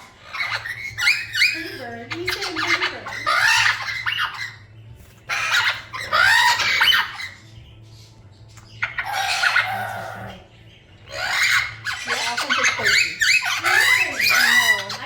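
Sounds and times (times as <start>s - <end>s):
parrot squawking: 0.0s - 15.0s.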